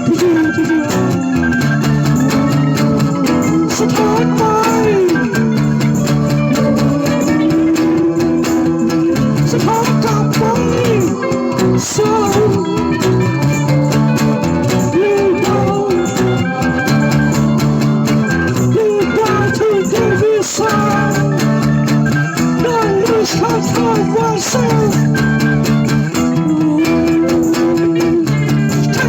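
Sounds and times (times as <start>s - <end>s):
blues-rock guitar music: 0.0s - 29.0s.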